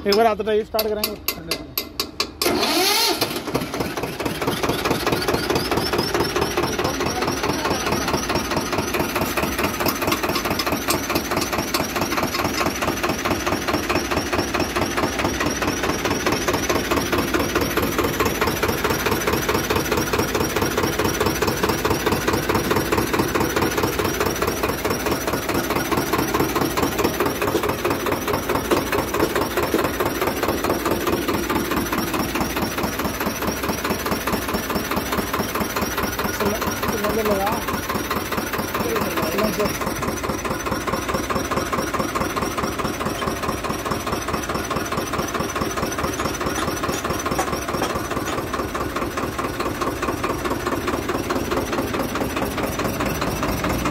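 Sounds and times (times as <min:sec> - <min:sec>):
tractor diesel engine idling: 0:00.0 - 0:53.9.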